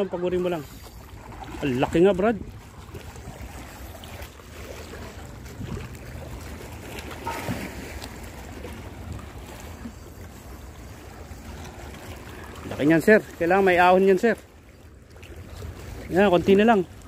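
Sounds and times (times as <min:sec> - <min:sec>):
waves lapping against rocks: 0:00.0 - 0:17.0.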